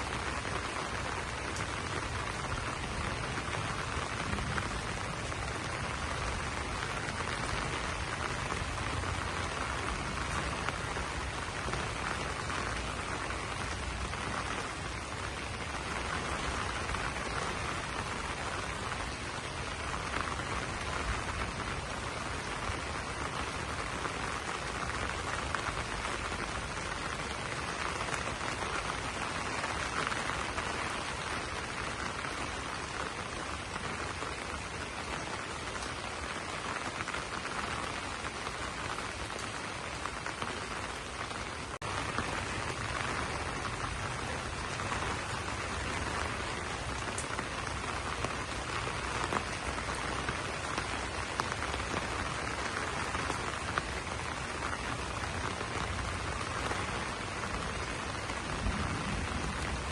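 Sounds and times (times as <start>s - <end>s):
rain on broad leaves: 0.0s - 59.9s.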